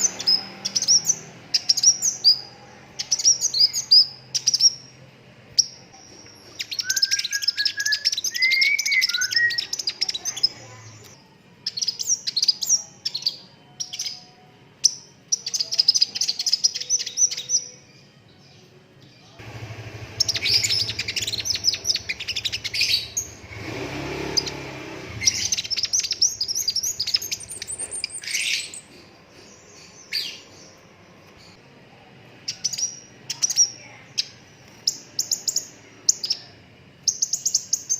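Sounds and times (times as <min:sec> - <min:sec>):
bird chirping and trilling: 0:00.0 - 0:05.0, 0:05.6 - 0:18.1, 0:20.0 - 0:30.8, 0:32.5 - 0:37.9.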